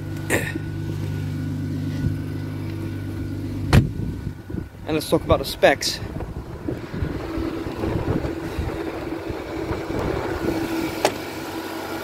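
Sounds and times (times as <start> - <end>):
car engine idling: 0.0 - 12.0
thin steady hum: 0.0 - 12.0.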